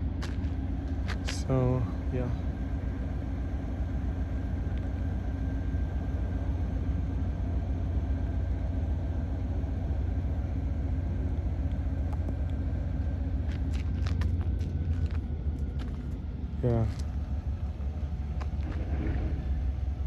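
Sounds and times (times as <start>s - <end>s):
freight train rumbling: 0.0s - 20.0s
low hum: 0.0s - 20.0s.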